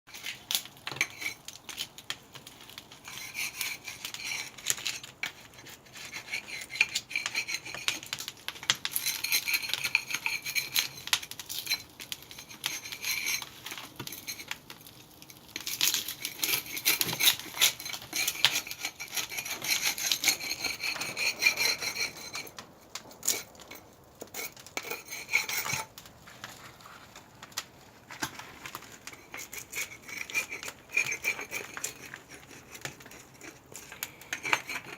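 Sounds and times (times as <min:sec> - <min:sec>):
hard objects scraping and clinking: 0:00.1 - 0:34.9.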